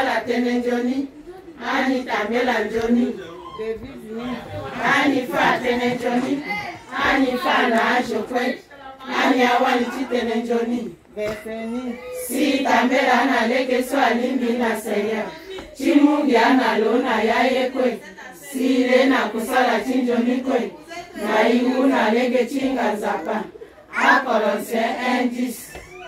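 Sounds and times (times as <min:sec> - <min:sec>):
women singing in unison: 0:00.0 - 0:26.0.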